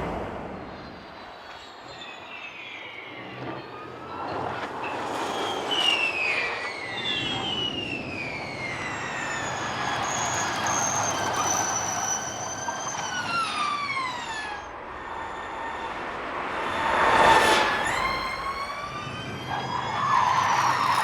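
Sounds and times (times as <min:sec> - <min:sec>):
electric race cars passing: 0:00.0 - 0:21.0.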